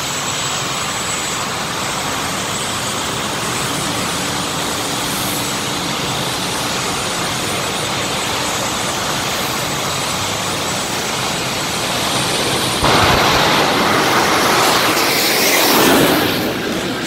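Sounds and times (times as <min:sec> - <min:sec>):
jet turbine cars roaring: 0:00.0 - 0:17.0.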